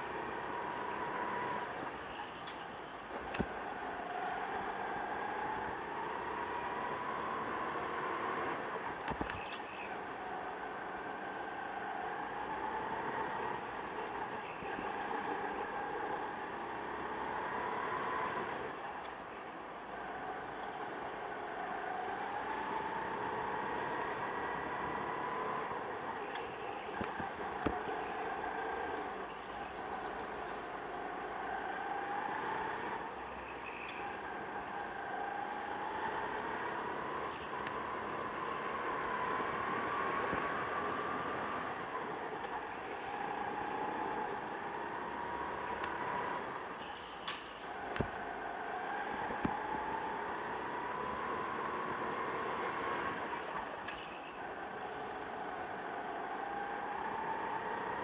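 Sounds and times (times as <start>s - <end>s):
go-kart motor revving: 0.0s - 19.2s, 19.8s - 58.0s.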